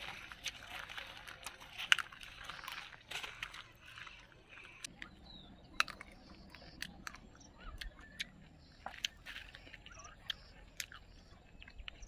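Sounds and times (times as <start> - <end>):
chewing raw fruit crunchily: 0.0 - 12.0.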